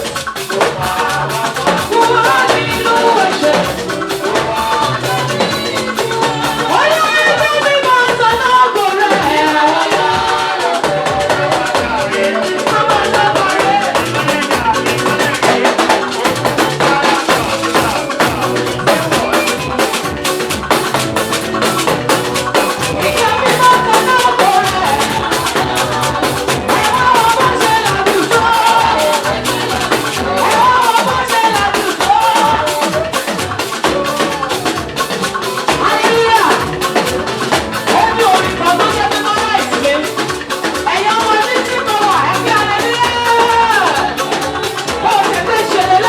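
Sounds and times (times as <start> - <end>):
drums and shakers beat: 0.0 - 46.0
gospel band playing: 0.0 - 46.0
person singing: 0.0 - 46.0.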